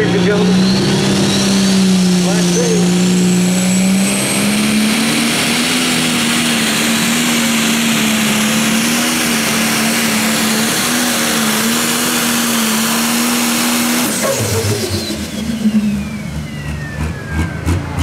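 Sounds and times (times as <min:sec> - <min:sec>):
diesel engine running under full load: 0:00.0 - 0:18.0.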